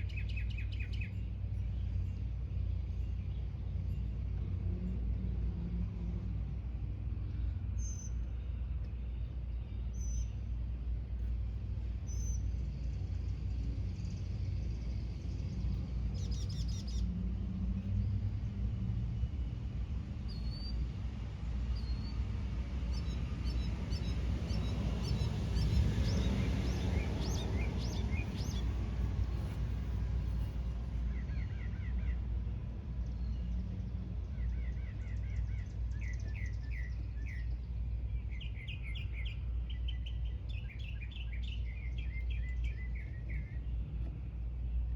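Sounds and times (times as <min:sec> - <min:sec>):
steady low rumble: 0:00.0 - 0:44.9.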